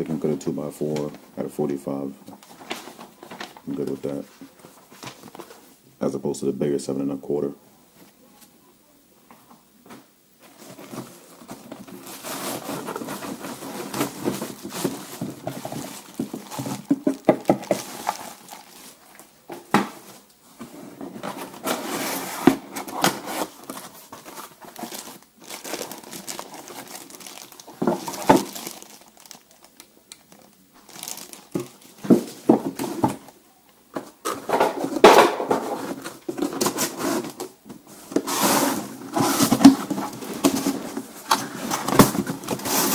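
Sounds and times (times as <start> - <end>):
packaging rustling and crinkling: 0.2 - 5.8, 9.9 - 42.9.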